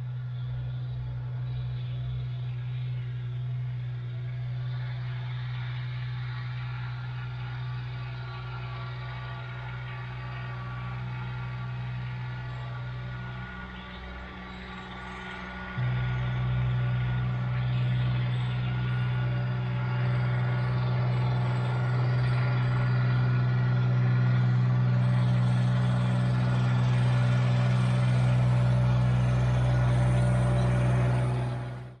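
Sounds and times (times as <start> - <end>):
tractor diesel engine droning: 0.0 - 32.0.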